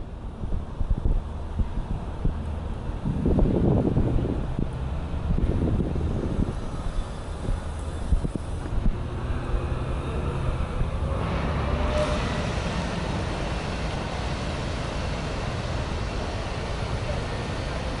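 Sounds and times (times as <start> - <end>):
steady rushing noise: 0.0 - 18.0
vehicle engine humming: 0.0 - 18.0.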